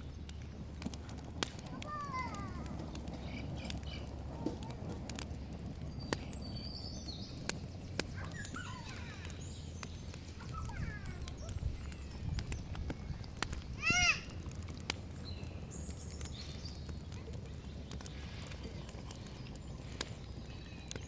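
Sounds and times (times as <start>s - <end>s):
birds chirping: 0.0s - 21.0s
wood fire crackling: 0.0s - 21.0s.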